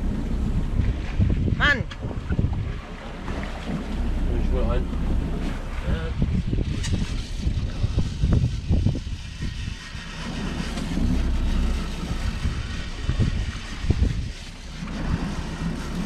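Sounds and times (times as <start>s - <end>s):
seawater rushing along hull: 0.0s - 16.0s
wind buffeting microphone: 0.0s - 16.0s.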